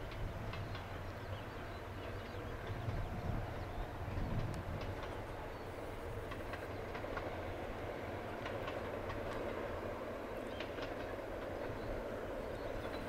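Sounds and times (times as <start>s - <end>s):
distant train rumble: 0.0s - 13.0s
wheels clicking over rail joints: 0.0s - 13.0s.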